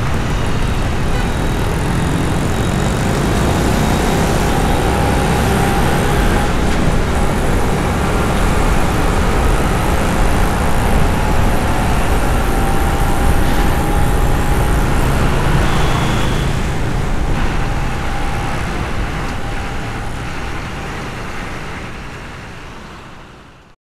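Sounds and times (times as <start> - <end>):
vehicle engines: 0.0 - 23.8.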